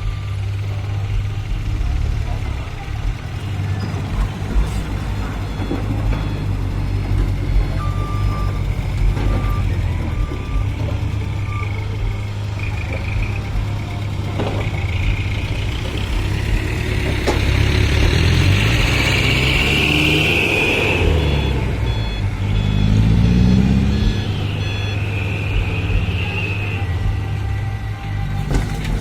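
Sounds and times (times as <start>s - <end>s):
reversing beeps: 0.0s - 13.9s, 14.6s - 27.5s
diesel truck engines running: 0.0s - 29.0s
engine revving: 0.0s - 29.0s.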